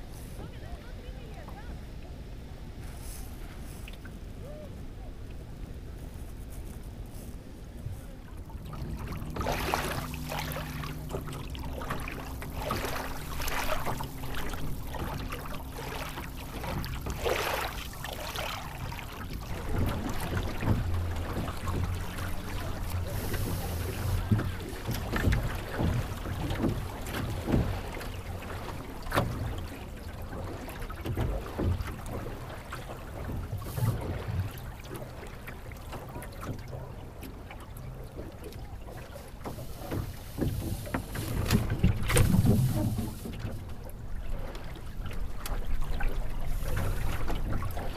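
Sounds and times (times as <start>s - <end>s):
wind rumbling on microphone: 0.0s - 37.2s, 38.2s - 47.9s
water splashing along hull: 0.0s - 47.9s
small waves slapping: 2.8s - 47.9s.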